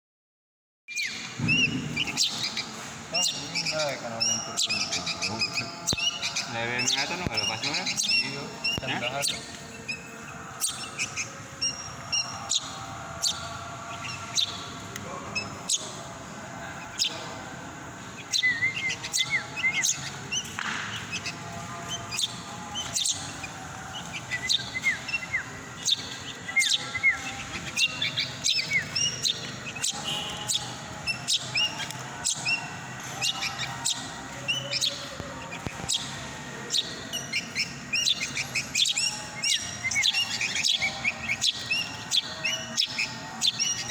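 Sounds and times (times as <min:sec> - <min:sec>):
bird chirping: 0:00.9 - 0:43.9.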